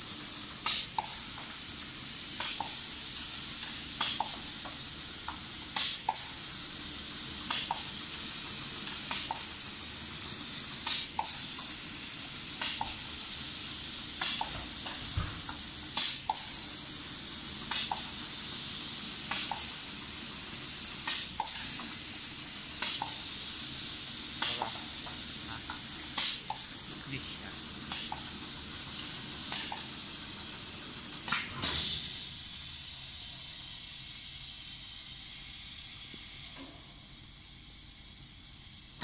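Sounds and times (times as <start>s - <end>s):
air spray gun hissing: 0.0s - 36.5s.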